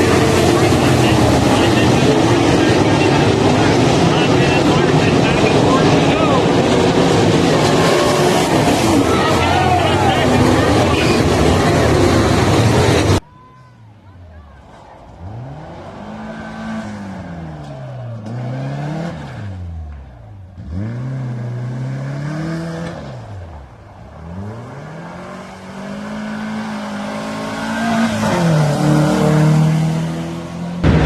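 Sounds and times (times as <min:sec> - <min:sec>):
race car engine revving: 0:00.0 - 0:13.2, 0:14.4 - 0:31.0.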